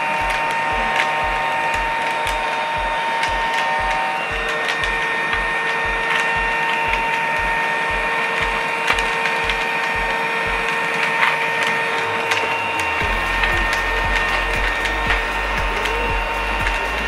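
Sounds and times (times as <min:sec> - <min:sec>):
toy vacuum motor whine: 0:00.0 - 0:17.0.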